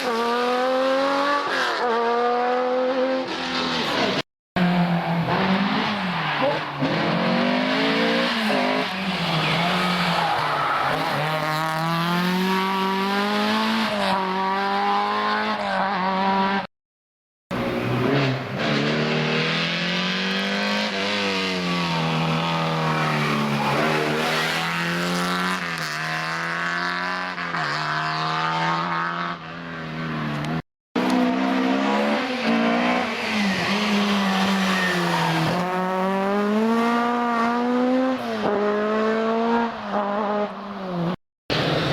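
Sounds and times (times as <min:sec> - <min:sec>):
rally car engine revving: 0:00.0 - 0:16.7, 0:17.5 - 0:29.5, 0:30.4 - 0:41.9.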